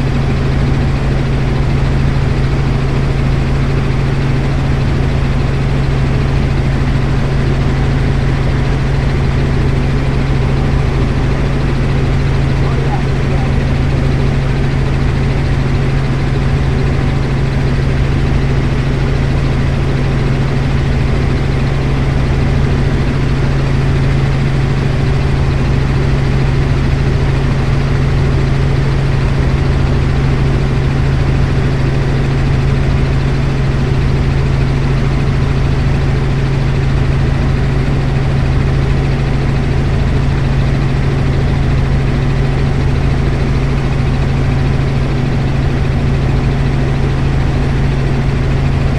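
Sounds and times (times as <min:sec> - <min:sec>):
helicopter engine and rotor drone: 0:00.0 - 0:48.9.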